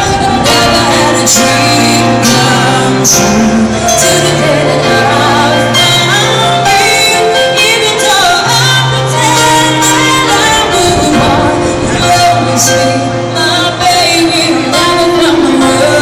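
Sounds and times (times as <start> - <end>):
acoustic guitar: 0.0 - 16.0
woman singing into a microphone: 0.0 - 16.0.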